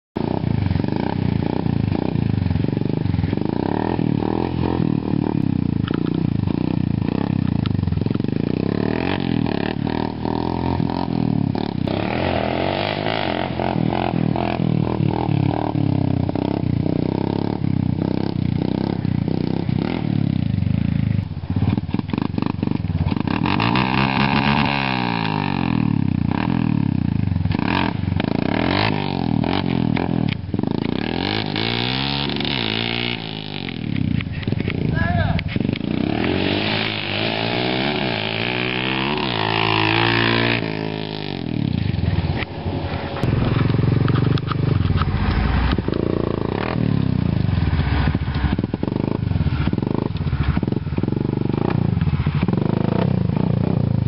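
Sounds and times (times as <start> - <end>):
atv engine revving: 0.2 - 54.0.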